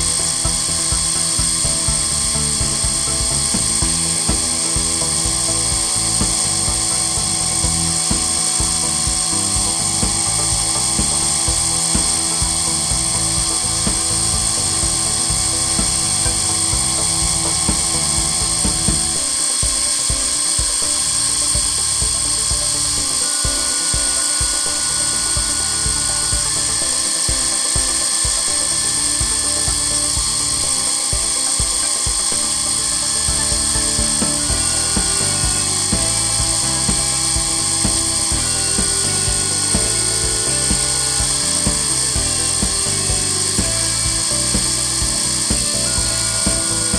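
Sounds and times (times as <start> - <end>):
mill spindle whining: 0.0 - 46.9
stepper motor tones: 0.0 - 46.9.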